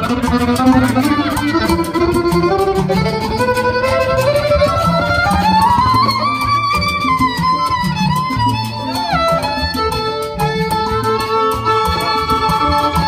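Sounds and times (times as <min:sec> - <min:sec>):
high sliding melody: 0:00.0 - 0:13.0
live latin band playing: 0:00.0 - 0:13.0
percussion: 0:00.0 - 0:13.0.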